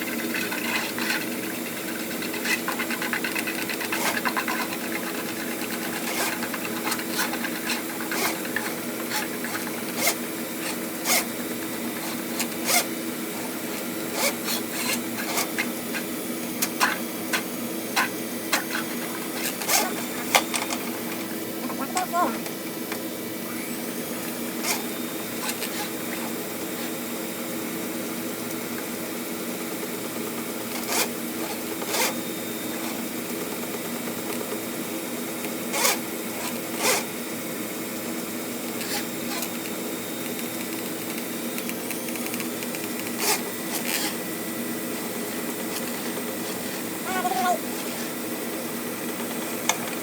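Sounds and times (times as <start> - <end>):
drain cleaning machine running: 0.0 - 50.0.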